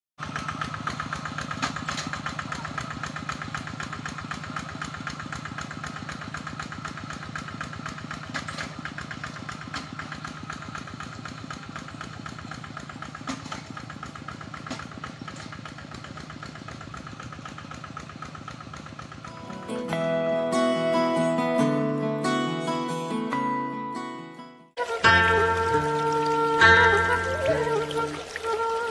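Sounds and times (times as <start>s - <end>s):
engine knocks: 0.2s - 20.4s, 24.8s - 28.9s
hand tractor engine chugging: 0.2s - 22.4s, 24.8s - 28.9s.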